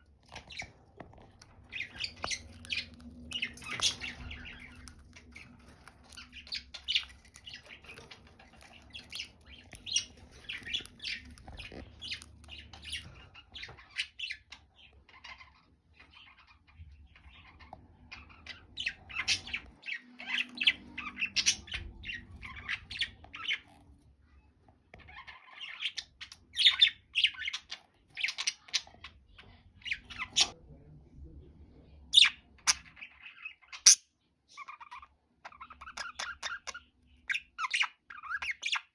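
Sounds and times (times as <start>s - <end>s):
budgerigars chirping and squawking: 0.0s - 24.0s, 25.0s - 30.6s, 32.1s - 38.9s.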